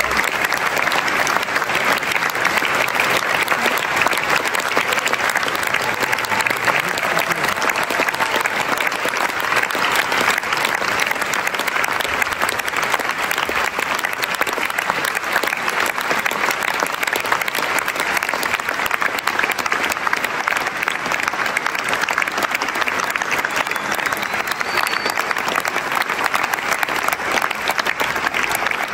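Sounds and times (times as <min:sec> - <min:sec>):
audience applauding: 0:00.0 - 0:28.9.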